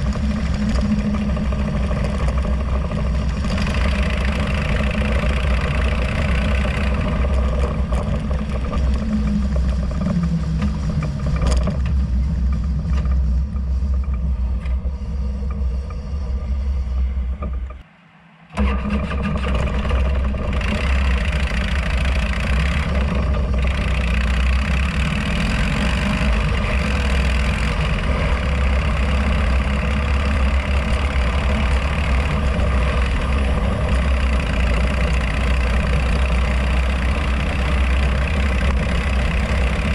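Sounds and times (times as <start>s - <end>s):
motorcycle engine running: 0.0s - 17.8s, 18.6s - 39.9s
road noise: 0.0s - 39.9s.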